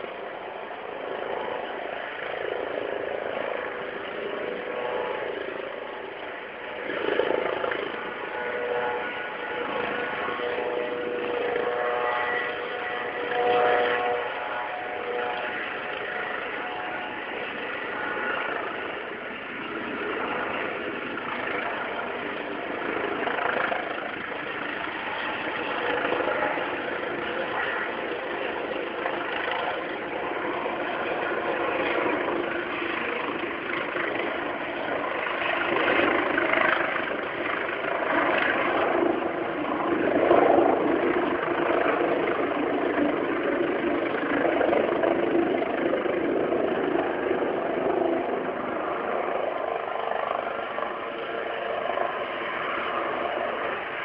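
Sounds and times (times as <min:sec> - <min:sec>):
helicopter flying overhead: 0:00.0 - 0:54.0.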